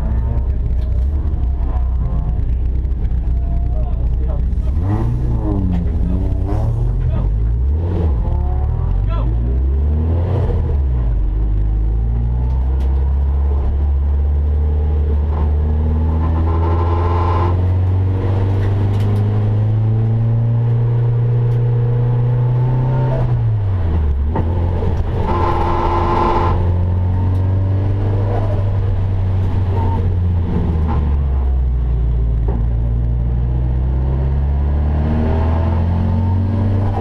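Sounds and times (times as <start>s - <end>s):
race car engine running: 0.0s - 37.0s.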